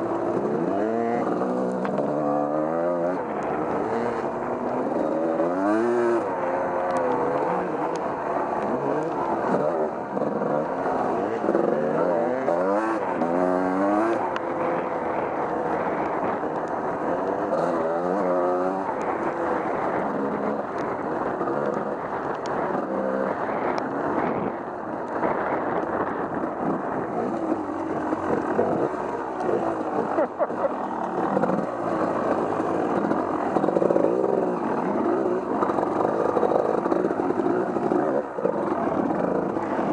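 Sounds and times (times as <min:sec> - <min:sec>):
off-road vehicle engine revving: 0:00.0 - 0:23.5, 0:25.7 - 0:39.9.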